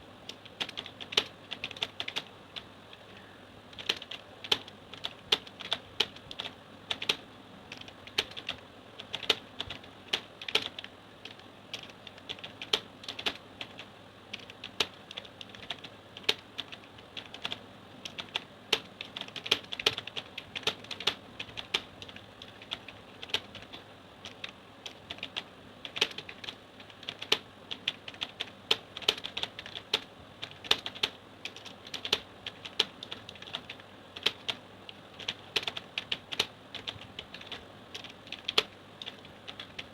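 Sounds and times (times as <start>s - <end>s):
keyboard typing clicks: 0.3s - 2.3s, 3.7s - 39.9s.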